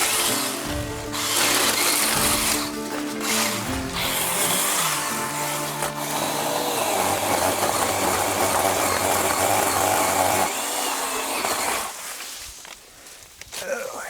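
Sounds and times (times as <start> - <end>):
small petrol power tool running: 0.0 - 12.1.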